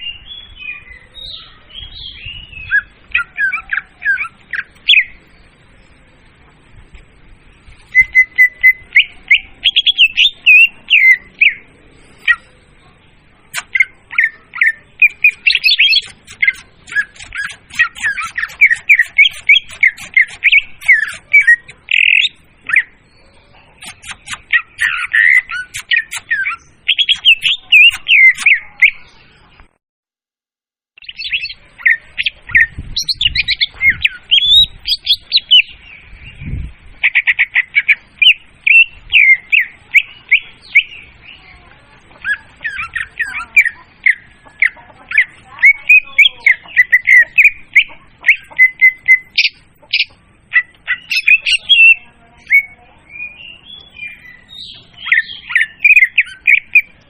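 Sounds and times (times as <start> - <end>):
bird song chattering and whistling: 0.0 - 6.3, 7.7 - 29.7, 31.0 - 57.0.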